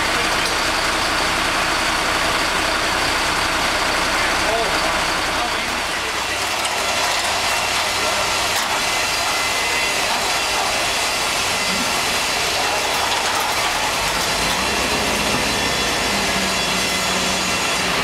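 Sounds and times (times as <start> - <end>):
crane engine and hydraulics: 0.0 - 18.0.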